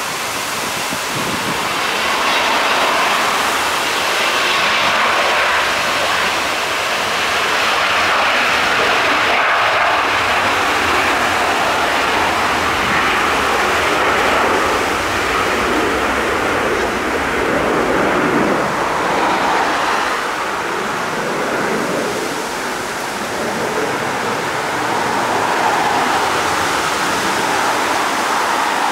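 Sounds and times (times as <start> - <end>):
jet engines roaring: 0.0 - 28.9.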